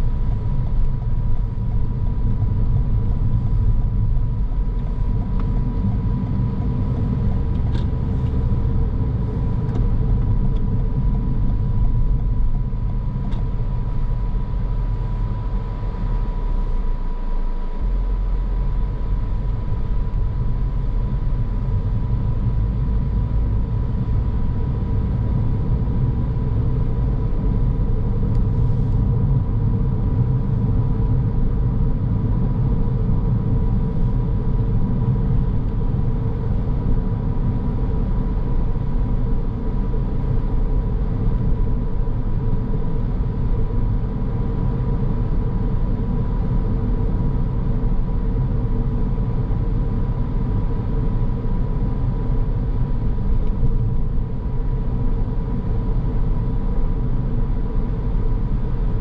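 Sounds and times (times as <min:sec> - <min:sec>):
car engine noise: 0:00.0 - 0:59.0
faint steady whine: 0:00.0 - 0:59.0
road and tyre rumble: 0:00.0 - 0:59.0.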